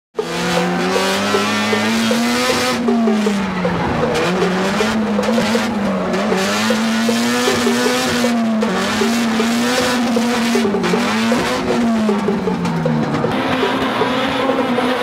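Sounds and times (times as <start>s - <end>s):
car engine revving high: 0.2s - 15.0s.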